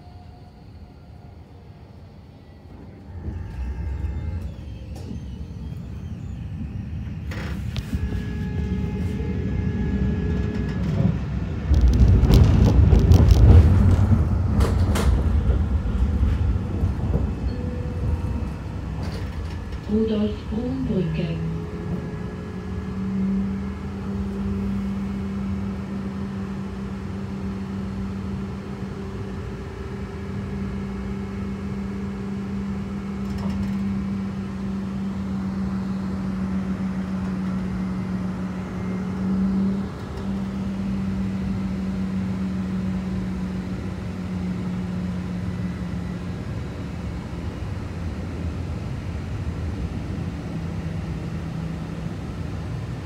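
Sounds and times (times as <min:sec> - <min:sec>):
tram interior hum: 0:00.0 - 0:53.0
wheels rumbling on rails: 0:00.0 - 0:53.0.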